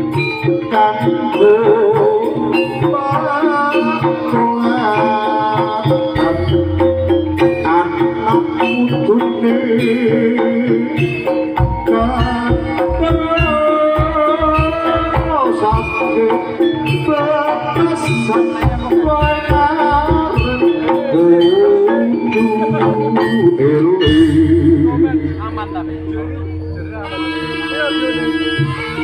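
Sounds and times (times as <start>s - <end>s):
gamelan ensemble: 0.0s - 29.0s
hand drums: 0.0s - 29.0s
person singing melody: 0.0s - 29.0s.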